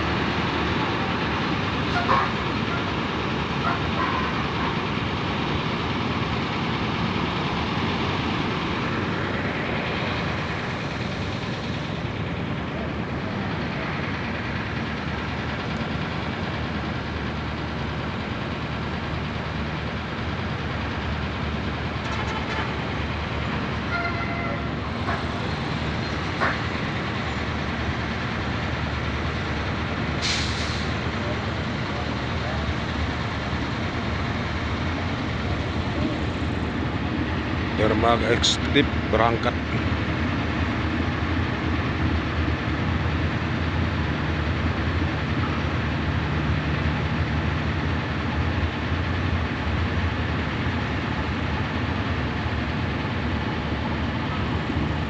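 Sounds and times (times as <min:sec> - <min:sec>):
large vehicle engines idling: 0:00.0 - 0:55.0.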